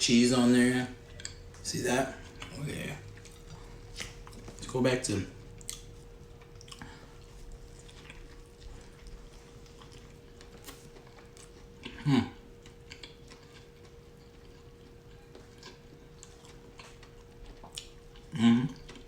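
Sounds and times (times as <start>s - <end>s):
faint steady hum: 0.0s - 19.0s
chewing and crunching food: 0.6s - 19.0s.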